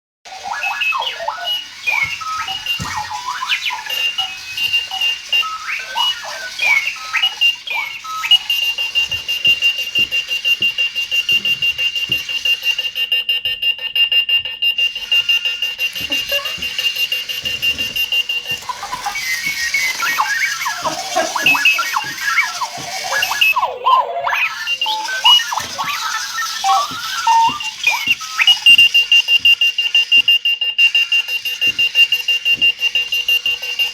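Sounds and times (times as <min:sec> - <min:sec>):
alarm clock chirps and beeps: 0:00.3 - 0:33.9
long steady high beep: 0:00.5 - 0:23.7, 0:24.3 - 0:33.9.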